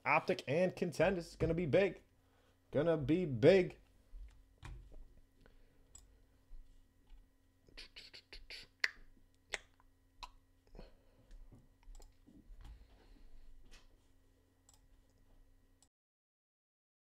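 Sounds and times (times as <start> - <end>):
faint electrical hum: 0.0 - 15.9.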